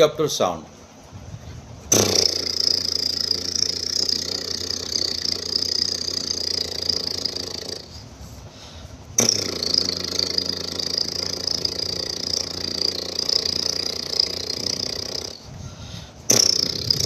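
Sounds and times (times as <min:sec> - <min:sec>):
person imitating a helicopter: 0:01.9 - 0:08.2, 0:08.8 - 0:17.0.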